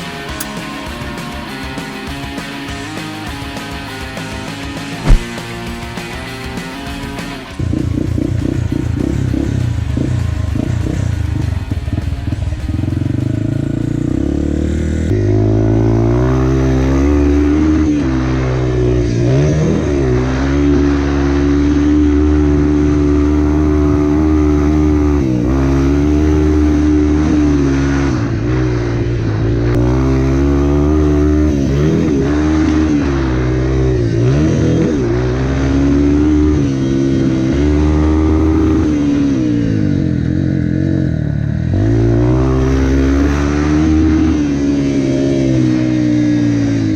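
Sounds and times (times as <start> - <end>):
dirt bike engine revving: 5.0 - 5.4, 7.6 - 46.9.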